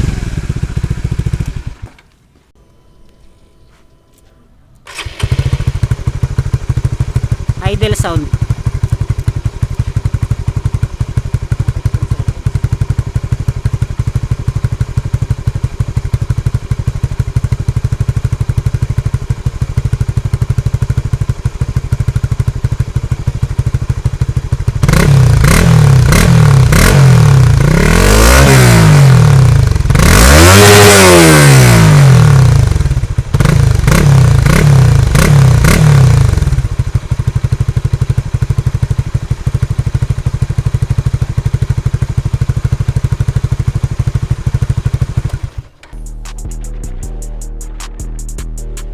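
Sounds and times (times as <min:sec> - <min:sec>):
motorcycle engine idling and revving: 0:00.0 - 0:02.2, 0:04.9 - 0:48.9.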